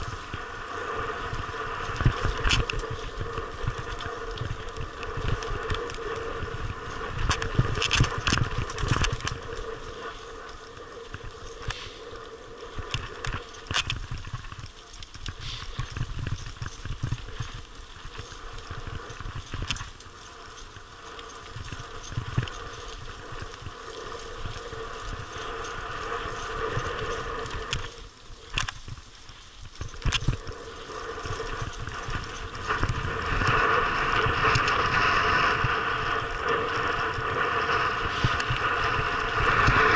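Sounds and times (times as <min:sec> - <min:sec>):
bike rattling and knocking: 0:00.0 - 0:39.9.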